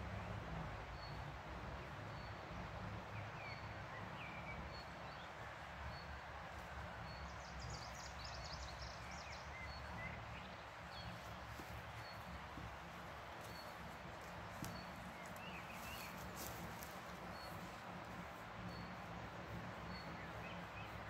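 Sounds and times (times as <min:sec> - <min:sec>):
wild birds singing: 0:00.5 - 0:21.0.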